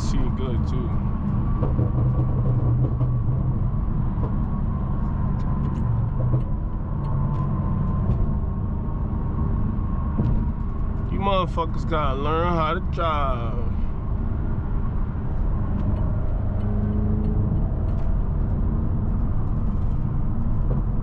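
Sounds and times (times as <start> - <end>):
car engine cruising drone: 0.0 - 21.0
tyres on road: 0.0 - 21.0.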